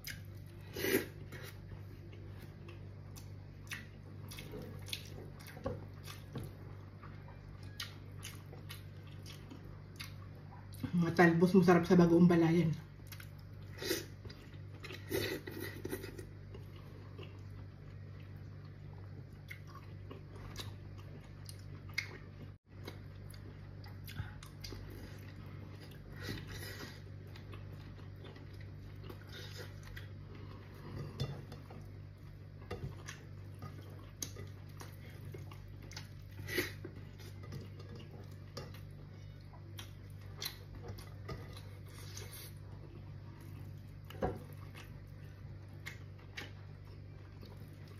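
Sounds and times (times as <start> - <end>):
person chewing: 0.0 - 10.8, 13.0 - 47.9
steady low hum: 0.0 - 47.9.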